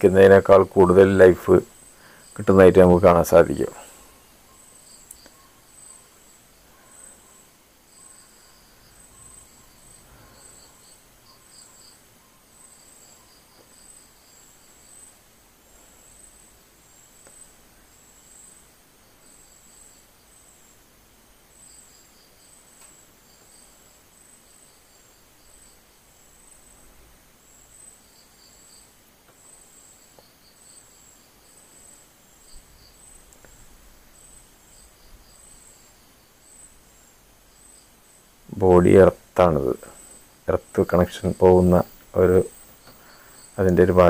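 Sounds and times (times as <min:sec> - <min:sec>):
insect chirping: 0:00.0 - 0:44.0
lower insect trill: 0:00.0 - 0:44.0.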